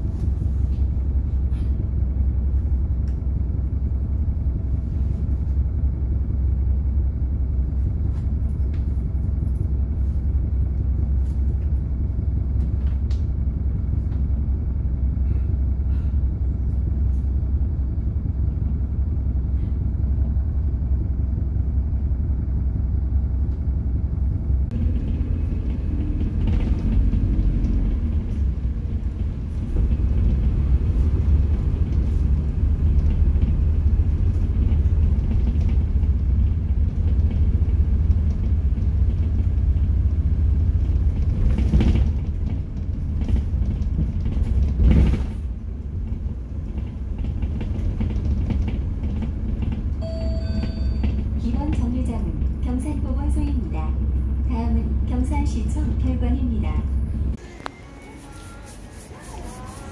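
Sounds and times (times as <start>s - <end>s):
road noise: 0.0s - 50.0s, 51.0s - 59.9s
bus engine rumble: 0.0s - 59.9s.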